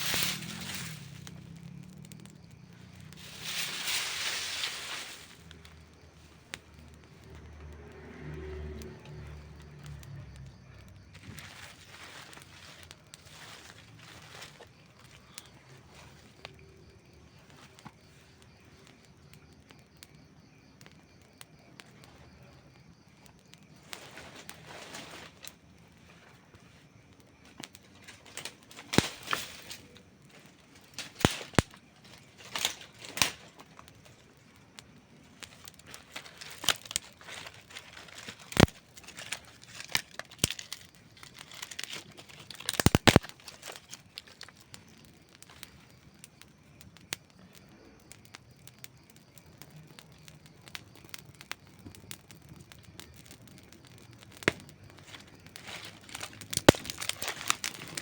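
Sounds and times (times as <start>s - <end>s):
campfire crackling and popping: 0.0s - 58.0s
low fire hiss: 0.0s - 58.0s.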